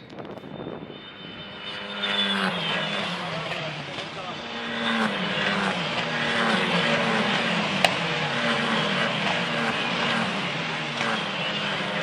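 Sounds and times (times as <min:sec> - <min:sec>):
race cars passing: 0:00.0 - 0:12.0.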